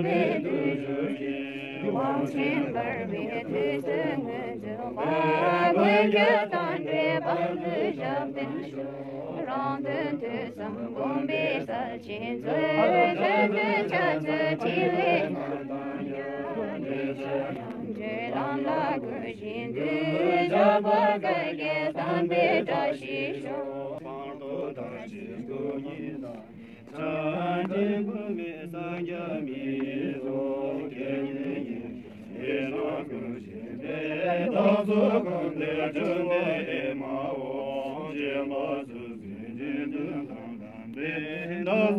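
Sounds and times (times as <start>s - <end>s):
group of voices chanting: 0.0s - 41.9s.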